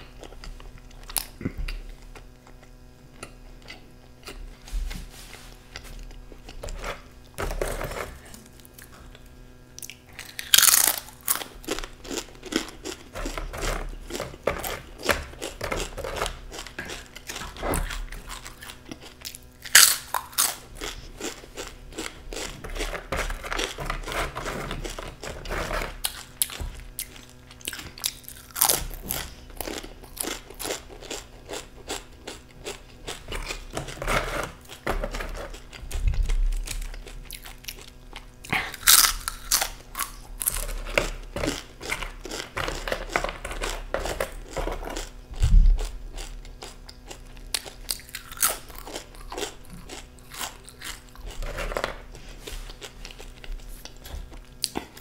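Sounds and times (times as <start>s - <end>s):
tortilla chips crunching: 5.3s - 55.0s.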